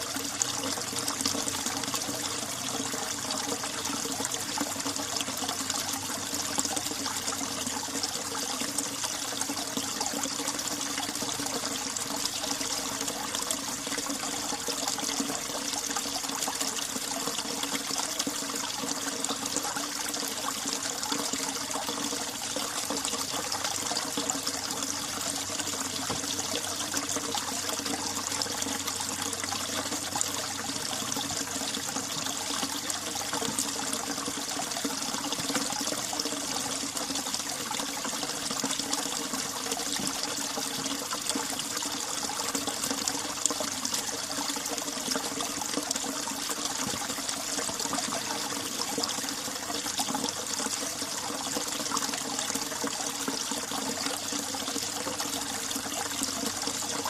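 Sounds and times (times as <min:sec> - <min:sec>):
stream water trickling and splashing: 0:00.0 - 0:57.0.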